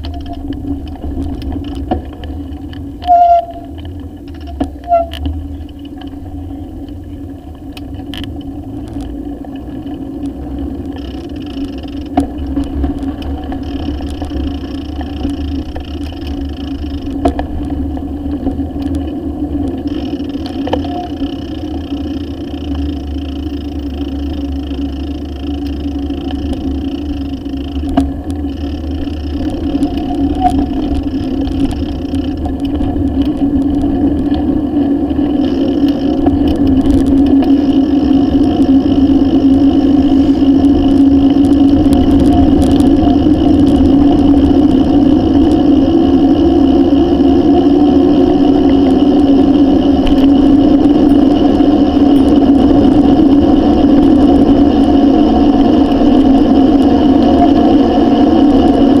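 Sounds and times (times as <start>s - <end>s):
bicycle tyre and road hum: 0.0s - 59.0s
wind rumble on microphone: 0.0s - 59.0s.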